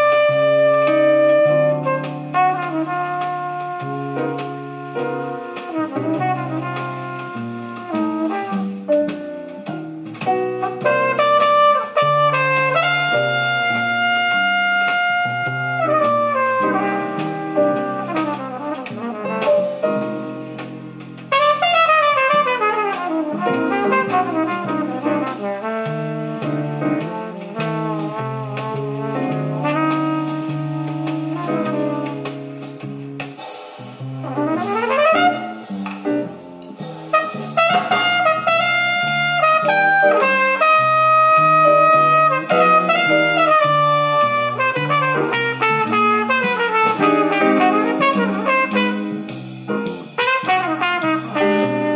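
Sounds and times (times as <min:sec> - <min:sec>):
jazz over loudspeakers: 0:00.0 - 0:51.9.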